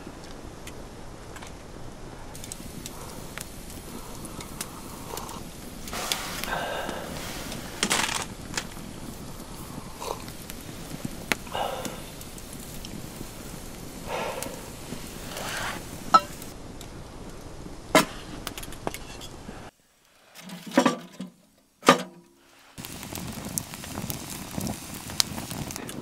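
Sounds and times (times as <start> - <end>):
wood fire crackling: 0.0 - 20.5, 22.8 - 26.0
background hiss: 0.0 - 26.0.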